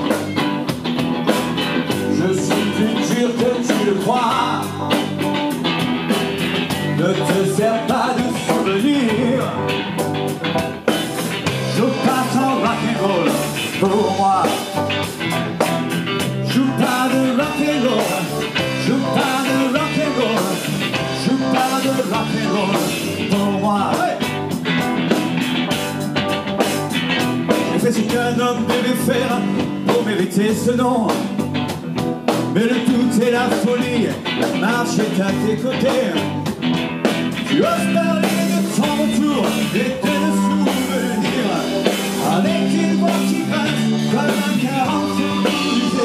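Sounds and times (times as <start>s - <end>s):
drums steady beat: 0.0s - 46.0s
electric guitar: 0.0s - 46.0s.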